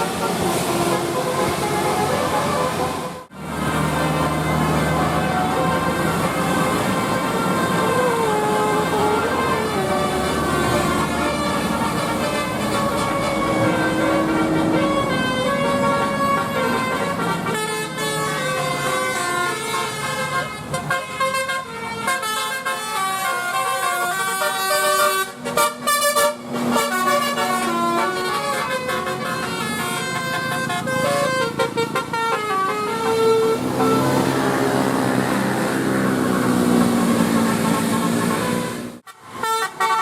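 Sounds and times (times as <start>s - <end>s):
multi-tone air horn melody: 0.0s - 40.0s.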